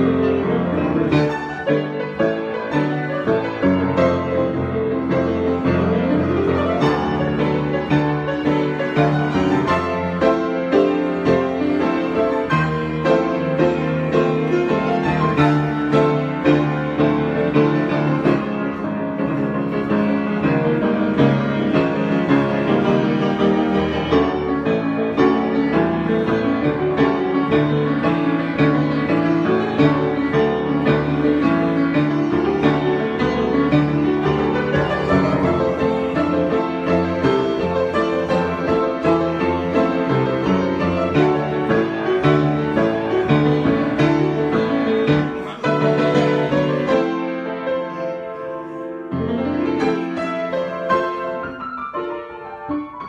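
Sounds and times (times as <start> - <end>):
solo piano: 0.0 - 53.0.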